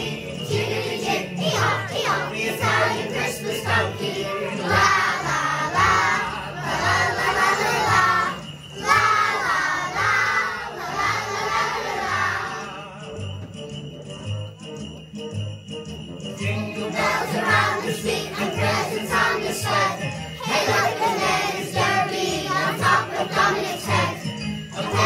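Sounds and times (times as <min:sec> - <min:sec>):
children singing and shouting: 0:00.0 - 0:13.1, 0:16.5 - 0:25.0.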